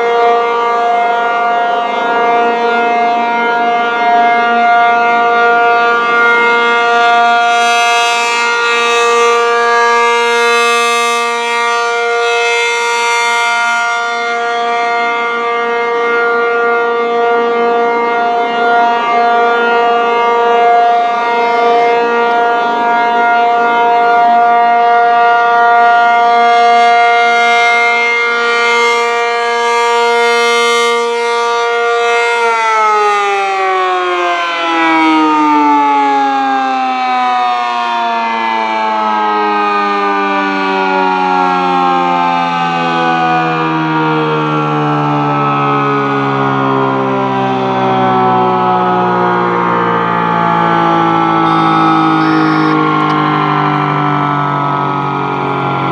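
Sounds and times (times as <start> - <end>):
rotating warning siren: 0.0 - 55.9.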